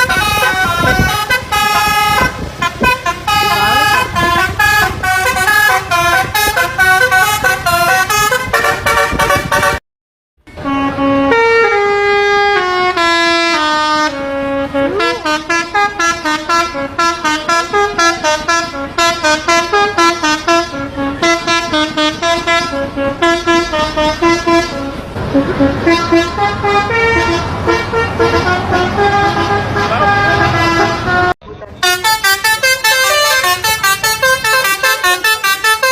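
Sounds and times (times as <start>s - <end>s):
bus horns playing melodies: 0.0s - 9.8s, 10.5s - 35.9s.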